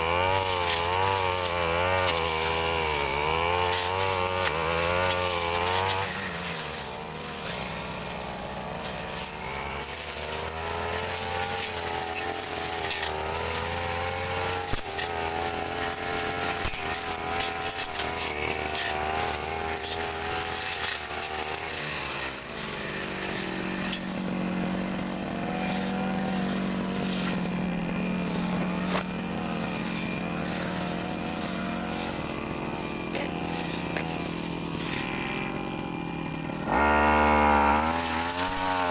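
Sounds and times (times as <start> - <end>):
brush cutter engine cutting grass: 0.0 - 38.9.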